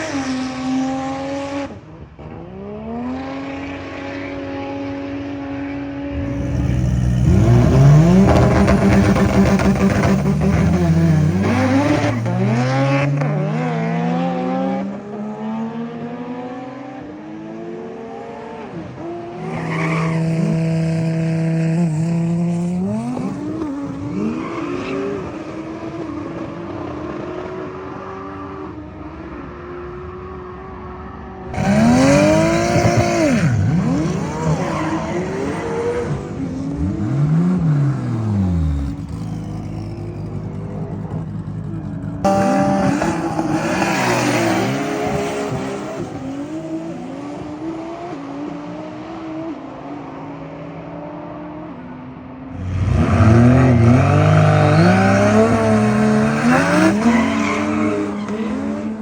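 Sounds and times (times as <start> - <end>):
car engines accelerating hard: 0.0 - 59.0.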